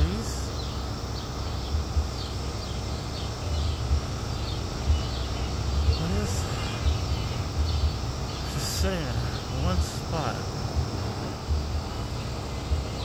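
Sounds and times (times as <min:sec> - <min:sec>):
faint high chirps: 0:00.0 - 0:13.0
low uneven microphone rumble: 0:00.0 - 0:13.0.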